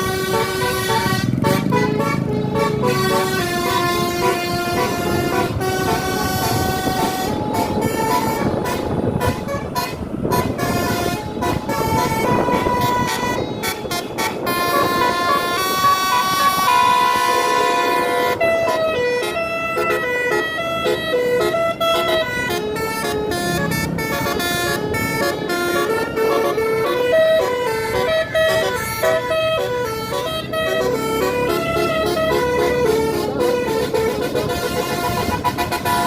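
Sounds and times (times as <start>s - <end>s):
multi-tone bus horn melody: 0.0s - 36.0s.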